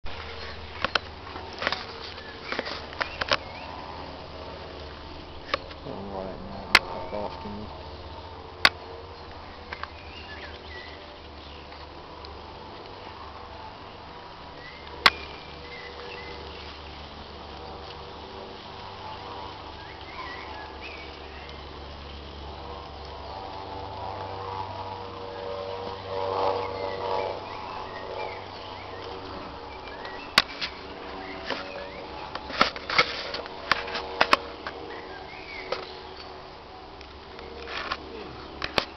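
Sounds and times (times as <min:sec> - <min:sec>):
buzzing hum: 0:00.0 - 0:38.9.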